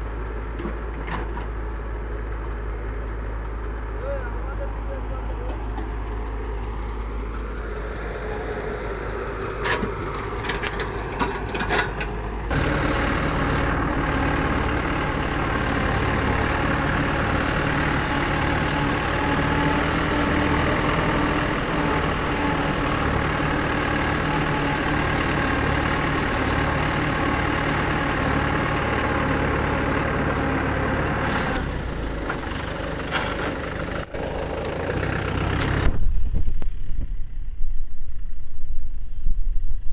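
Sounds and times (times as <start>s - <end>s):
tractor diesel engine running: 0.0s - 39.2s.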